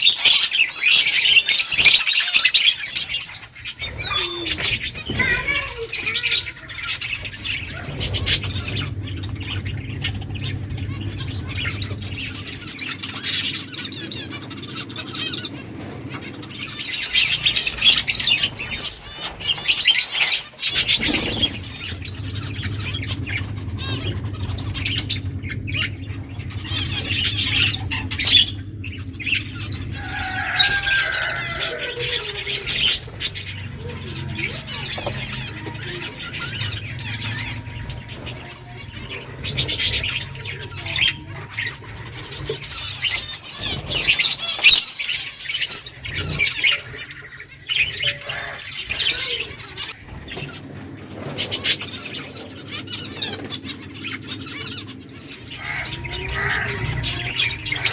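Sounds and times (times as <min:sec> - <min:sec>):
finches chirping: 0:00.0 - 0:15.6, 0:16.2 - 0:50.6, 0:51.6 - 0:57.9
steady low hum: 0:03.0 - 0:57.9.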